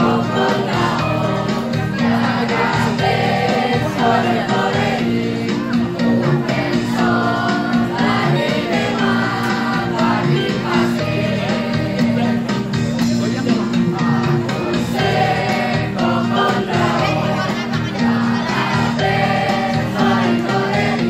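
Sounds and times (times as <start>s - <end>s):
choir singing: 0.0s - 12.5s, 14.0s - 21.0s.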